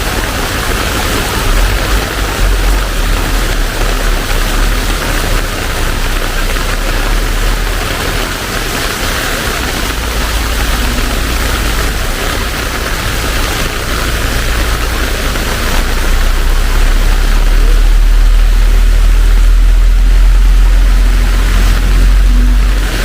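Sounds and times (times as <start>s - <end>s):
heavy rain pouring: 0.0s - 23.0s
low rumble: 0.2s - 23.0s.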